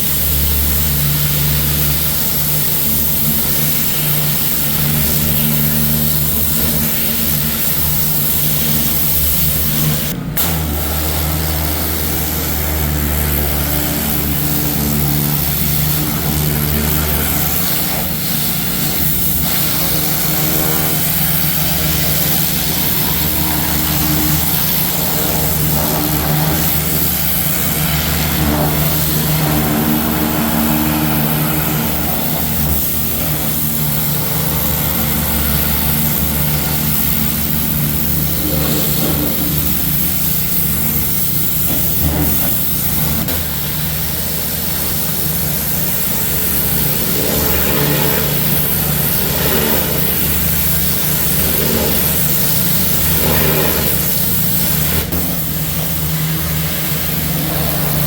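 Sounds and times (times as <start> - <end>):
high-pressure spray hissing: 0.0 - 58.0
pressure washer motor drone: 0.0 - 58.0.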